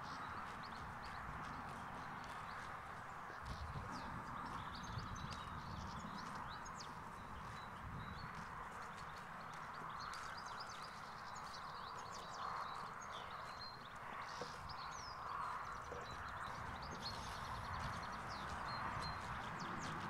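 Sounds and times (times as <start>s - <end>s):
birds chirping and singing: 0.0s - 20.0s.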